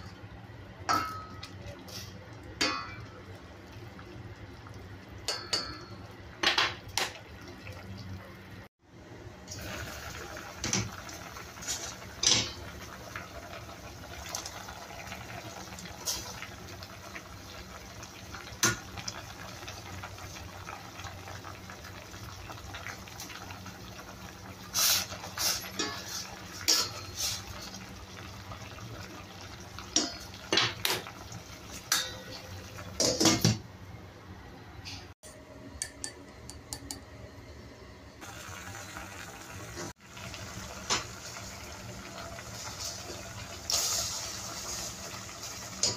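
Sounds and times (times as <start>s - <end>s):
soup boiling in a saucepan: 0.0s - 33.6s, 38.2s - 45.9s.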